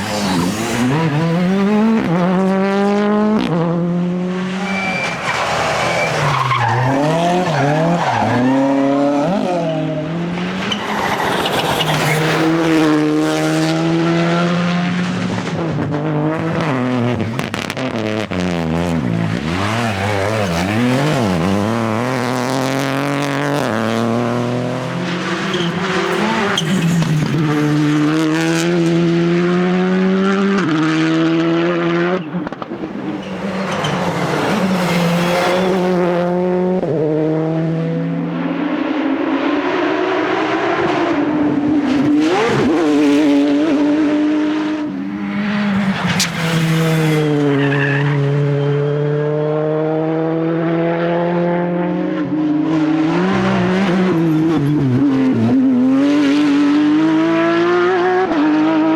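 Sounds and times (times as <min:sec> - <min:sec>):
rally car engines at full throttle: 0:00.0 - 0:58.9.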